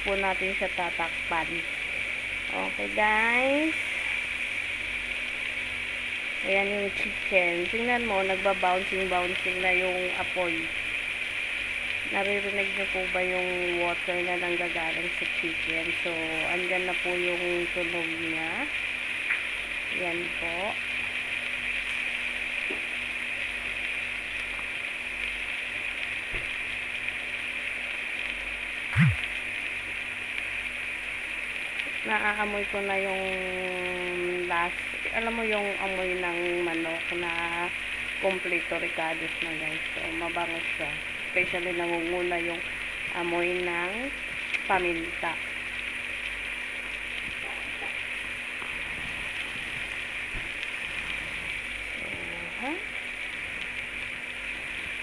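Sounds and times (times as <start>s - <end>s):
chicken sizzling in a pan: 0.0s - 55.0s.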